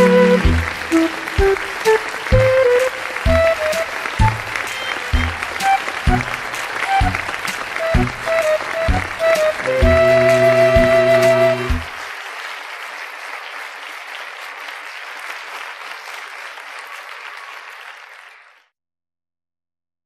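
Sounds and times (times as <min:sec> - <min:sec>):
audience clapping: 0:00.0 - 0:18.7.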